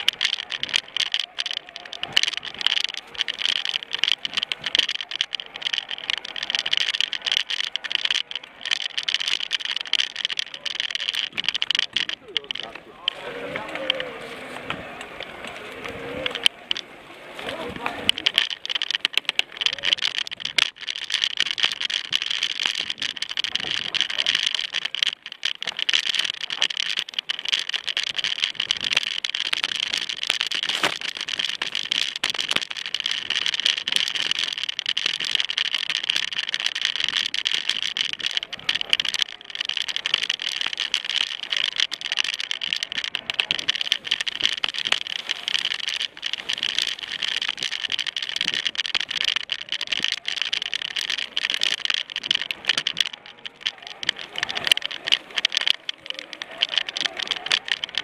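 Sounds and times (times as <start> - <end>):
bike rattling over bumps: 0.0 - 58.0.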